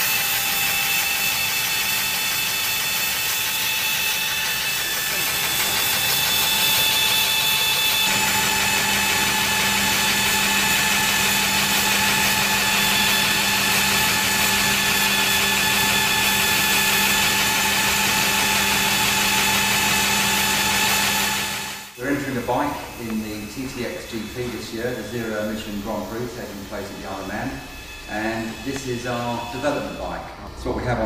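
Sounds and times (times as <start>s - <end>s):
electric motor mechanical whine: 0.0s - 31.0s.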